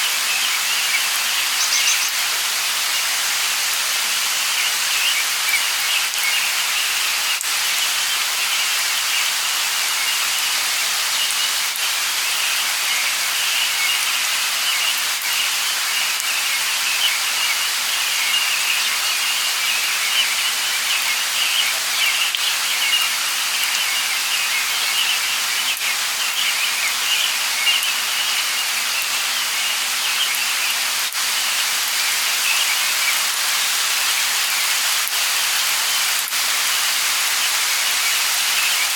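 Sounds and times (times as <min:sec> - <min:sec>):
light rain falling: 0:00.0 - 0:38.9
birds twittering: 0:00.1 - 0:03.2, 0:04.4 - 0:36.1.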